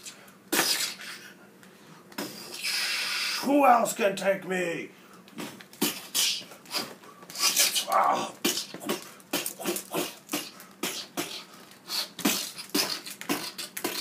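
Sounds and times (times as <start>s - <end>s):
person making mouth fight sounds: 0.0s - 1.3s, 2.1s - 3.5s, 5.3s - 14.0s.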